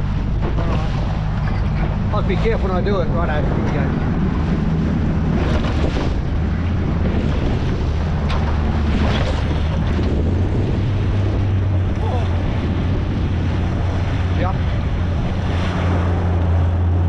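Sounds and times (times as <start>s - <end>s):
boat motor humming: 0.0s - 17.0s
water washing: 0.0s - 17.0s
wind buffeting microphone: 0.0s - 17.0s.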